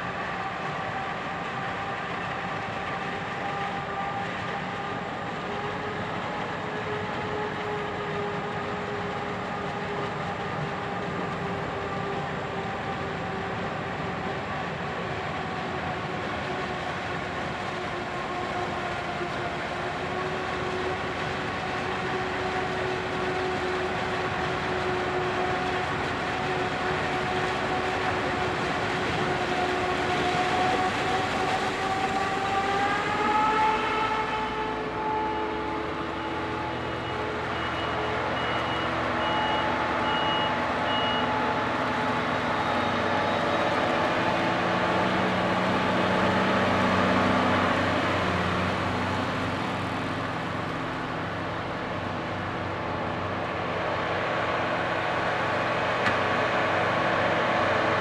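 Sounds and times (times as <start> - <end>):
heavy vehicle whine: 0.0 - 58.0.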